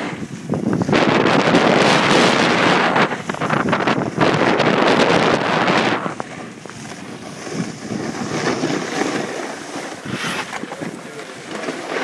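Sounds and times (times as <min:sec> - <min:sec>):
snowboard scraping over snow: 0:00.0 - 0:12.0
wind buffeting microphone: 0:00.0 - 0:12.0.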